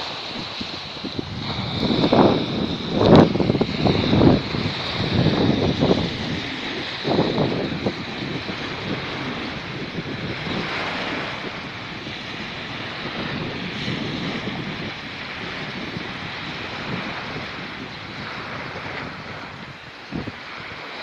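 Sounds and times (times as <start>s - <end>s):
waves washing onto beach: 0.0s - 21.0s
wind buffeting microphone: 0.0s - 21.0s.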